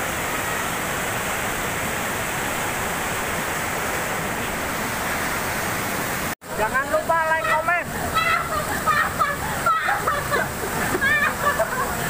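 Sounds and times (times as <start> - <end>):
mountain stream rushing over rocks: 0.0 - 12.0.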